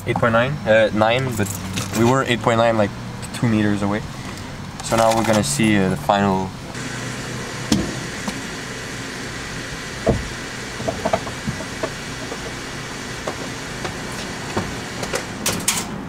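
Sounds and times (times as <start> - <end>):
fuel pump dispensing: 1.1 - 16.0.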